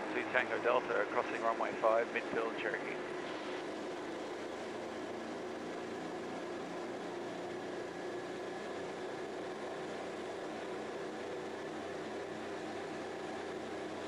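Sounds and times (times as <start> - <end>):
aircraft engine and propeller drone: 0.0 - 14.0.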